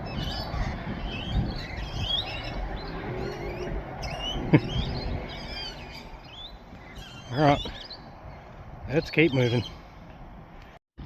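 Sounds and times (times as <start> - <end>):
steady low rumble: 0.0 - 9.0
small birds chirping: 0.0 - 9.9.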